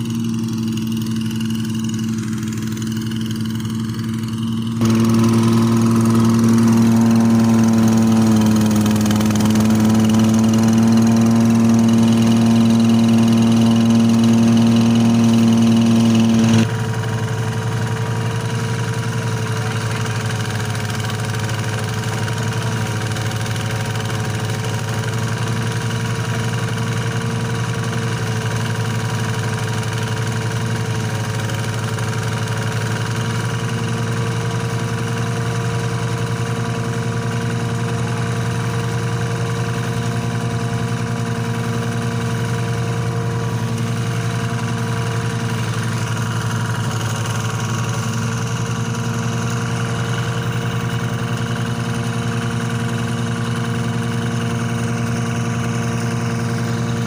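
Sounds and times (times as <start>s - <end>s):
rice thresher engine humming: 0.0s - 57.0s.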